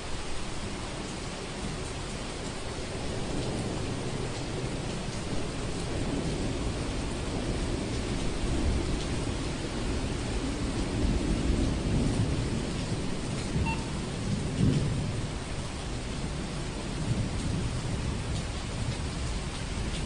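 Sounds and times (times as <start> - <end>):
steady rain: 0.0 - 20.0
low thunder rumbles: 2.8 - 20.0.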